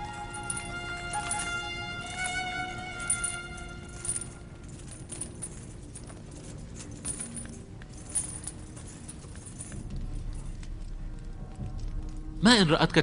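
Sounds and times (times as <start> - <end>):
metallic jingling and clinking: 0.0 - 12.3
faint low background: 0.0 - 13.0.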